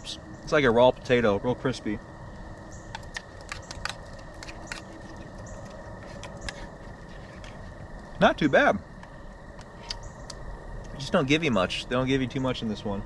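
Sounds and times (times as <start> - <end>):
low background hiss: 0.0 - 3.2, 5.1 - 13.0.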